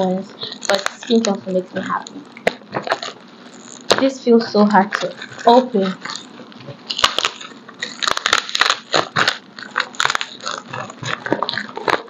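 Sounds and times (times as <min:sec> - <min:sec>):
packaging crinkling: 0:00.0 - 0:04.1, 0:04.8 - 0:12.0.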